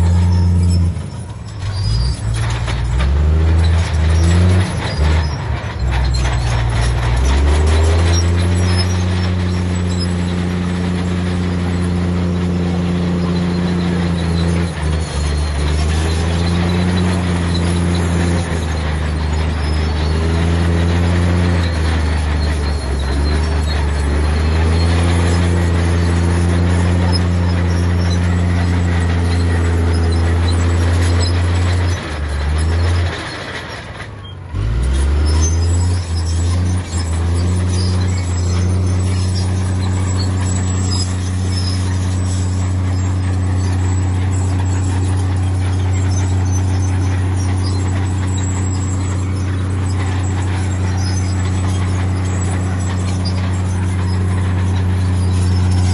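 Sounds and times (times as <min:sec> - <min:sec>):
heavy diesel engine running hard: 0:00.0 - 0:55.9.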